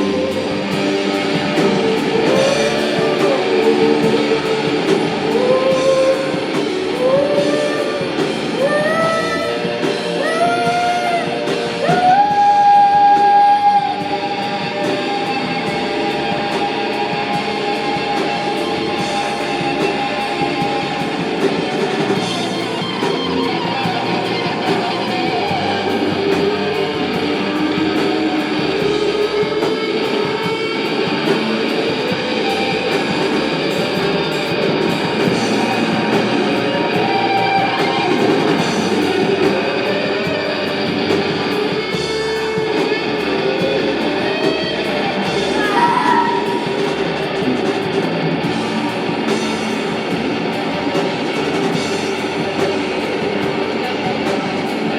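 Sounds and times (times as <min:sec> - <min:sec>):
rising electric guitar line: 0:00.0 - 0:54.9
rock band playing: 0:00.0 - 0:54.9.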